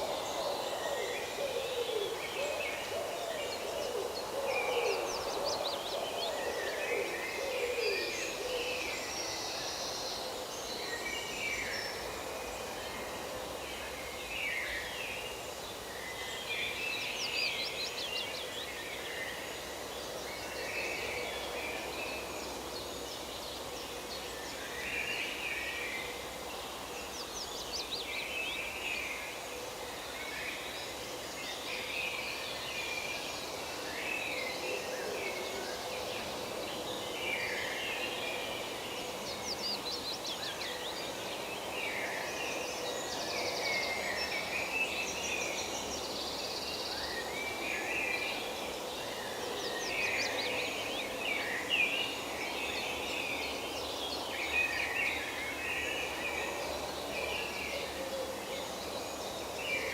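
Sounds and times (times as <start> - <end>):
forest birds chirping and trilling: 0.0 - 59.9.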